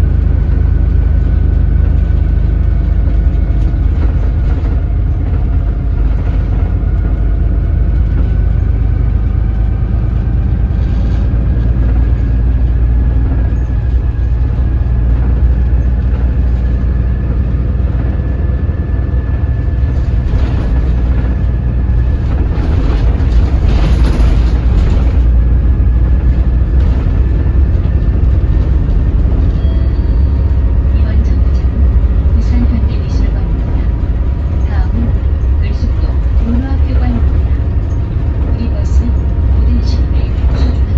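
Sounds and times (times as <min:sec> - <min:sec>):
bus diesel engine rumble: 0:00.0 - 0:40.9
faint engine whine: 0:00.0 - 0:40.9.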